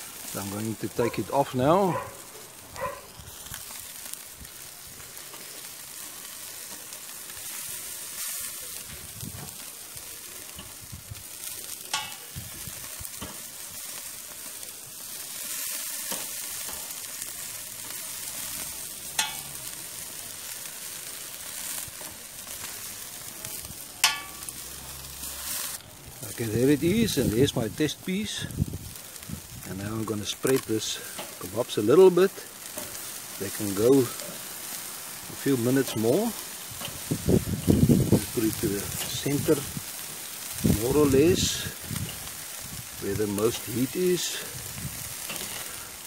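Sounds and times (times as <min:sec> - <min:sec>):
meat sizzling on a grill: 0:00.0 - 0:46.0.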